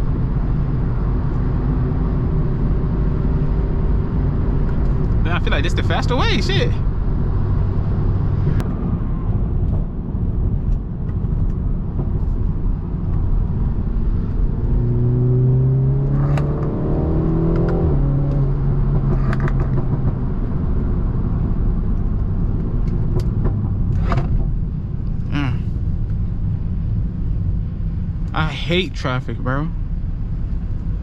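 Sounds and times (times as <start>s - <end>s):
car engine running: 0.0s - 31.0s
road noise: 0.0s - 31.0s.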